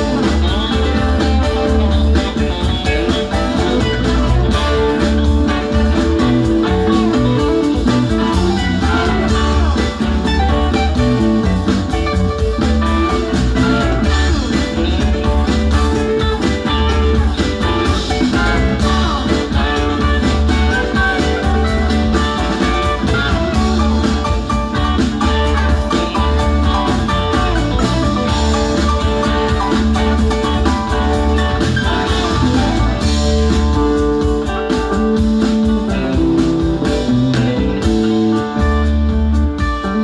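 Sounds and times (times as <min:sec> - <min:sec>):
bass: 0:00.0 - 0:40.0
drums: 0:00.0 - 0:40.0
electric guitars: 0:00.0 - 0:40.0.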